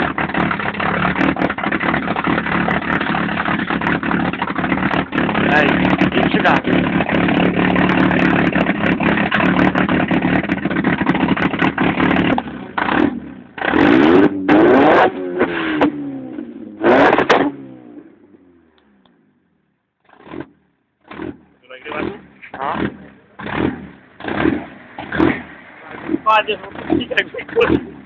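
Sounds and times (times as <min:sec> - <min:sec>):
rough engine revving: 0:00.0 - 0:18.7, 0:20.0 - 0:28.0.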